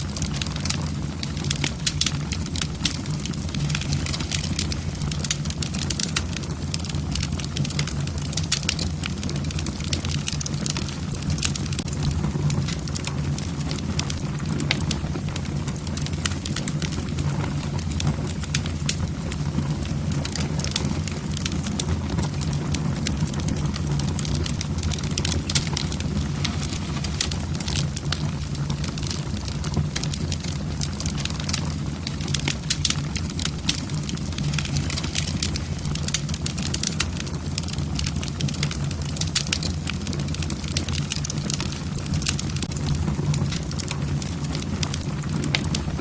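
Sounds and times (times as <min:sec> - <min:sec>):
logs crackling and popping in fireplace: 0:00.0 - 0:46.0.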